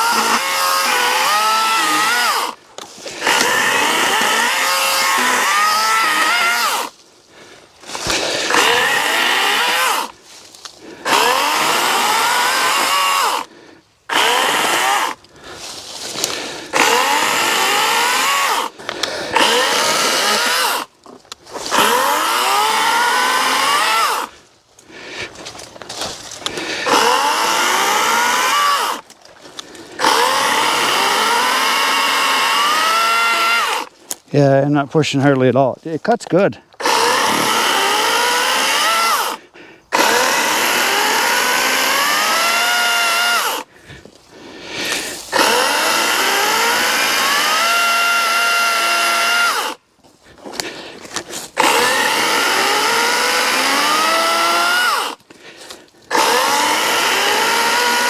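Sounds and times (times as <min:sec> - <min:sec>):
electric chainsaw cutting branches: 0:00.0 - 0:07.0, 0:07.8 - 0:24.4, 0:25.2 - 0:34.1, 0:36.8 - 0:43.7, 0:44.7 - 0:49.8, 0:50.4 - 0:58.0.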